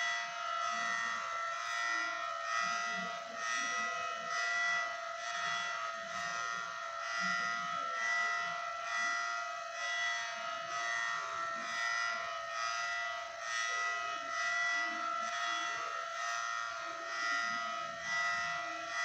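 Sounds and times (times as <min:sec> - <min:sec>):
warning siren wailing: 0:00.0 - 0:19.0.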